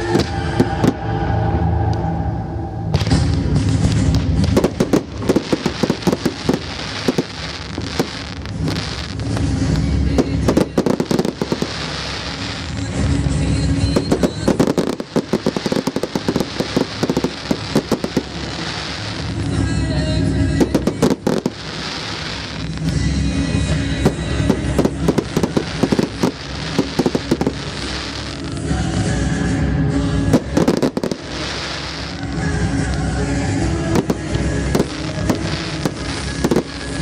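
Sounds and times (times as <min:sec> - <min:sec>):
fireworks bursting with bangs: 0:00.0 - 0:01.3, 0:02.9 - 0:37.0
music playing: 0:00.0 - 0:37.0.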